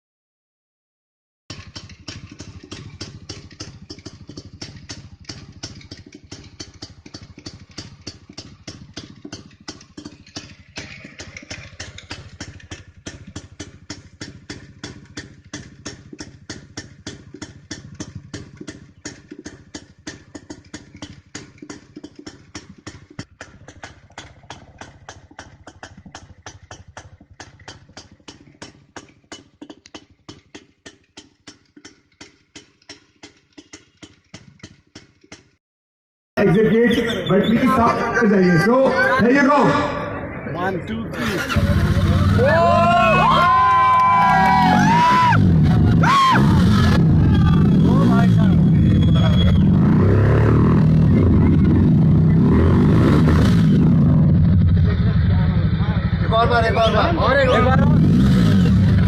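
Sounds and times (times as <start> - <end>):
motorcycle engine idling: 1.5 - 35.4, 41.1 - 59.0.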